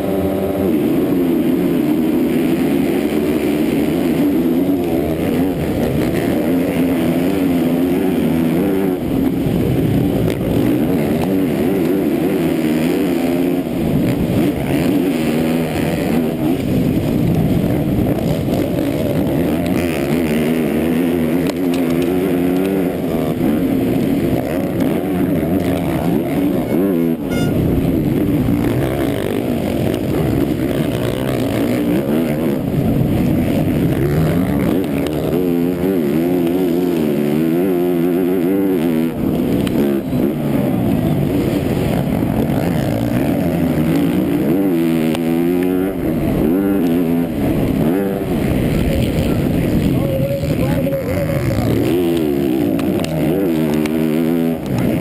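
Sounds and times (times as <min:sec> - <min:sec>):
motocross bike engine revving: 0:00.0 - 0:55.0
other race bikes: 0:00.0 - 0:55.0.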